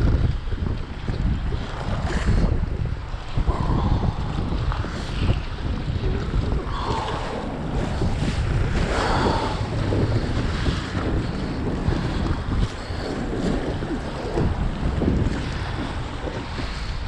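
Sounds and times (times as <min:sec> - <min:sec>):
water splashing around boat: 0:00.0 - 0:17.0
wind buffeting microphone: 0:00.0 - 0:17.0.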